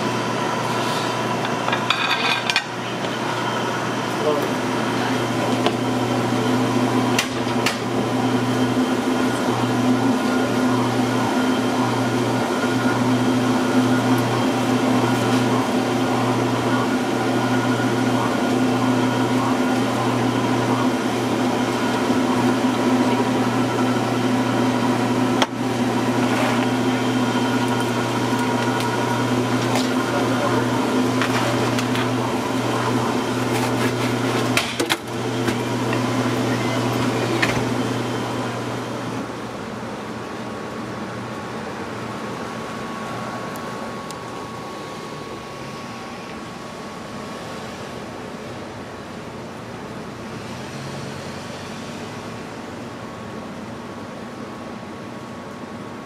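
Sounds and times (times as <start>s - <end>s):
kitchen machinery hum: 0.0s - 56.0s.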